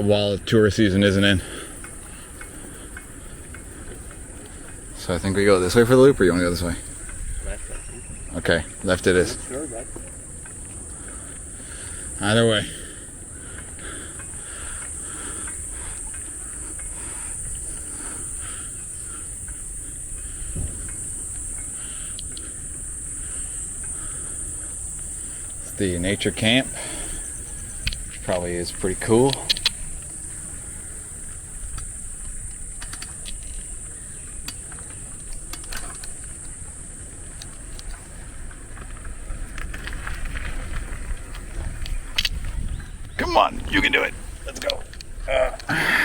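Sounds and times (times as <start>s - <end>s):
bicycle rumble: 0.0s - 46.0s
insects chirring: 0.0s - 46.0s.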